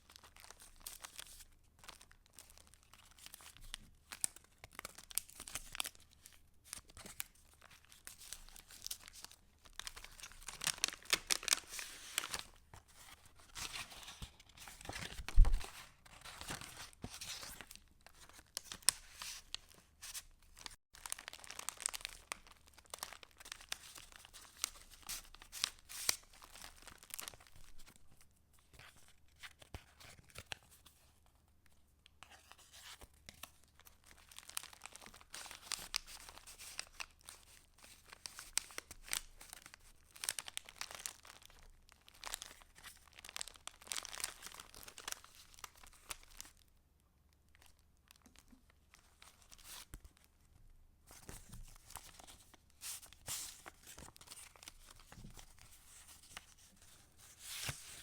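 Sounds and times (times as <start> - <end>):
paper rustling and crinkling: 0.1 - 28.0, 32.3 - 46.5, 51.1 - 58.0.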